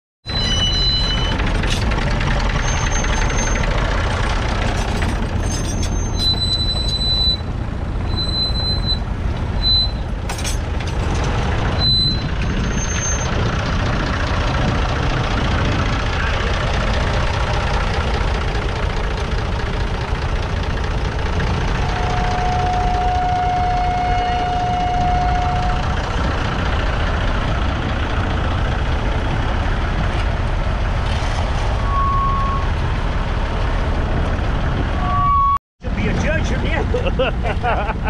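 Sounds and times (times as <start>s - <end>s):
diesel tractor engine under load: 0.2s - 38.0s.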